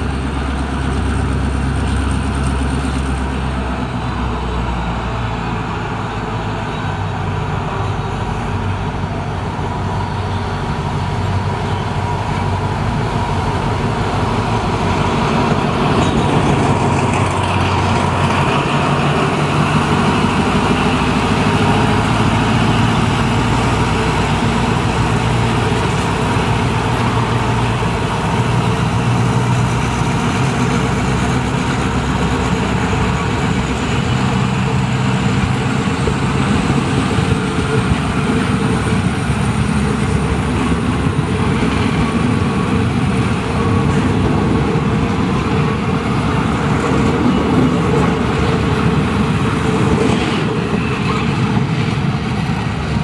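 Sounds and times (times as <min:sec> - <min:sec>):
diesel locomotive passing: 0:00.0 - 0:53.0
train wheels clattering on rails: 0:06.4 - 0:53.0.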